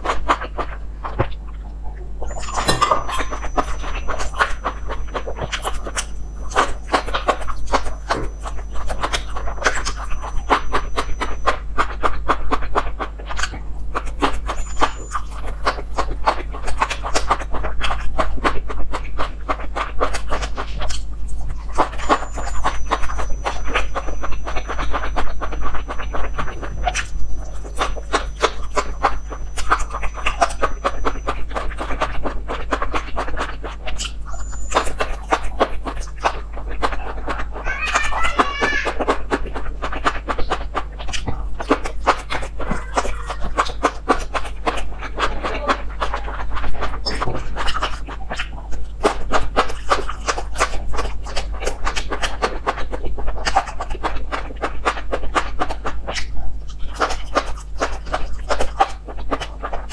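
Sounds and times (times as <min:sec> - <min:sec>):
chewing and lip smacking: 0:00.0 - 0:59.9
low hum: 0:00.0 - 0:59.9.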